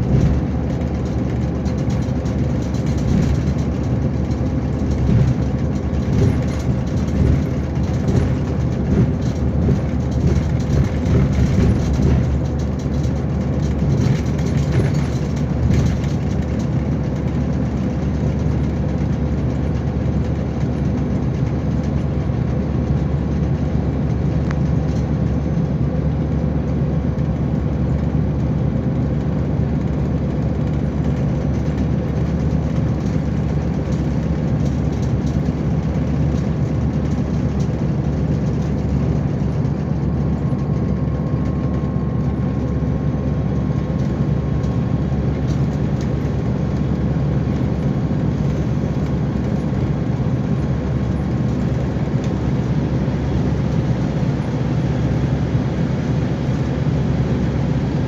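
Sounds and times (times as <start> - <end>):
coach engine and road rumble: 0.0 - 58.0.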